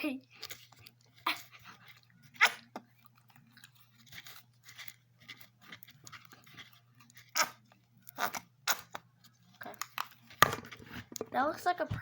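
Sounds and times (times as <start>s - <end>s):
slime stirred and squelching: 0.0s - 12.0s.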